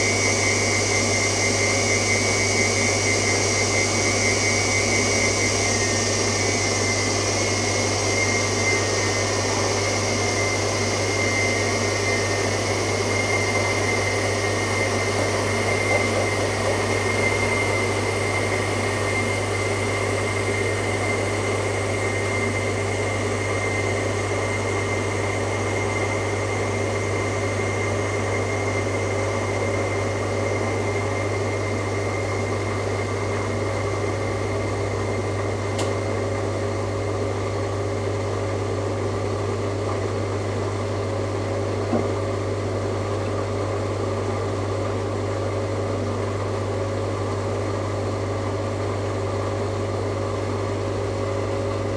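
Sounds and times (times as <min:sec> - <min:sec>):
washing machine running: 0:00.0 - 0:51.9.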